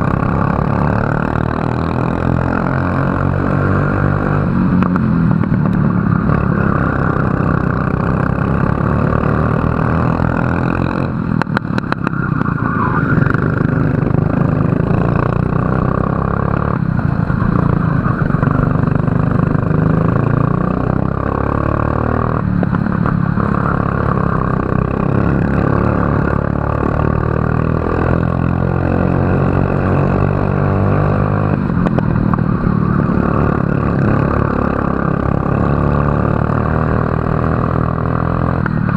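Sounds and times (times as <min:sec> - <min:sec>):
racing kart engine: 0:00.0 - 0:38.9.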